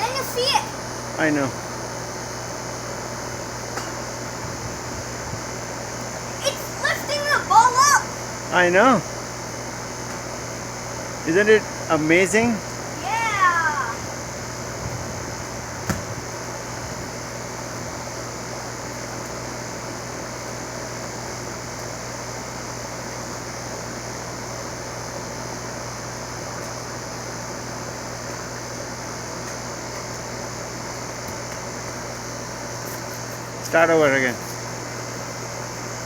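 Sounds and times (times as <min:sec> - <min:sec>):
fan rushing air with low hum: 0:00.0 - 0:36.0.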